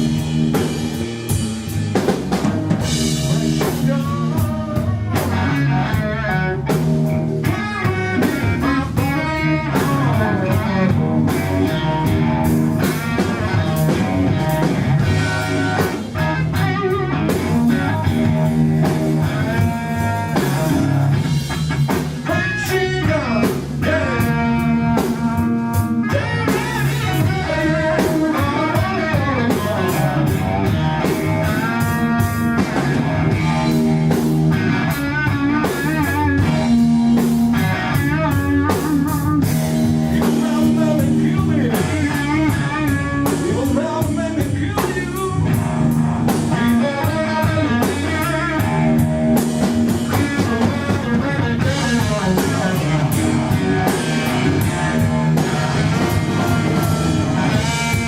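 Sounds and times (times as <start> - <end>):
bass guitar: 0.0 - 58.0
drum kit: 0.0 - 58.0
electric guitar solo: 4.7 - 21.2, 22.3 - 43.7, 45.5 - 58.0.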